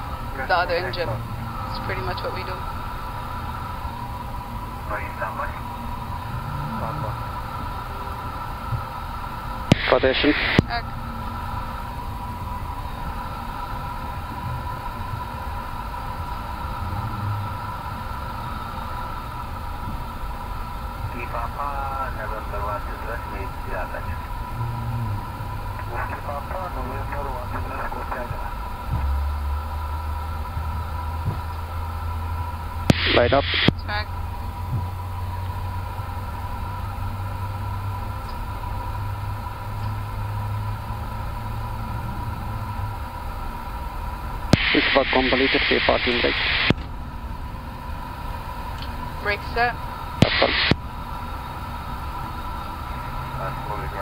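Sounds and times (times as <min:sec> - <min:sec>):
cockpit hum: 0:00.0 - 0:54.0
low engine rumble: 0:00.0 - 0:54.0
steady whining tones: 0:00.0 - 0:54.0.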